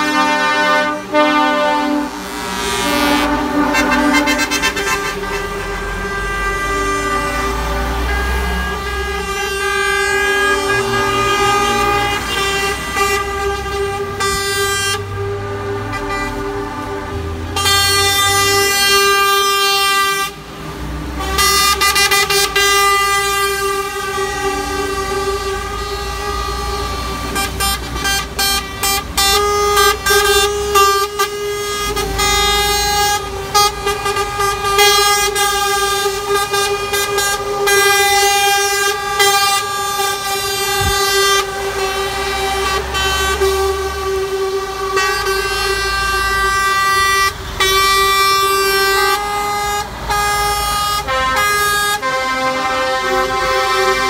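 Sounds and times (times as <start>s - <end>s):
diesel engines running: 0.0s - 54.0s
truck air horns: 0.0s - 54.0s.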